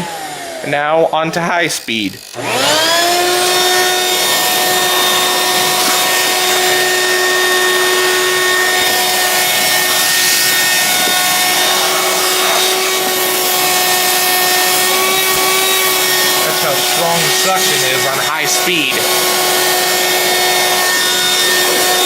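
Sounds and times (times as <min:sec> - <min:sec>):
vacuum cleaner motor whining: 0:00.0 - 0:22.0.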